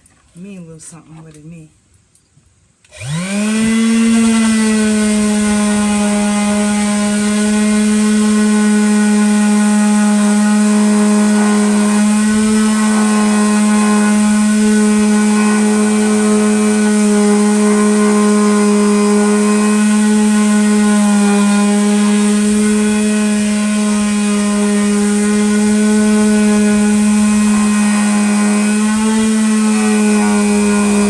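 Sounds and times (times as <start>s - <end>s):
power sander motor whine: 2.8s - 31.0s.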